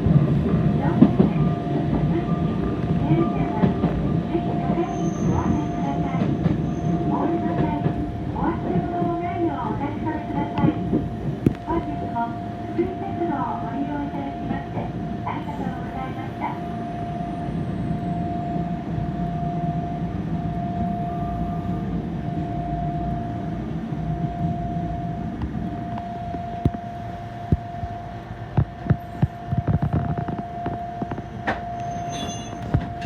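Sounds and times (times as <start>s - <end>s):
tram rumbling: 0.0s - 33.0s
constant mid-pitched tone: 0.8s - 33.0s.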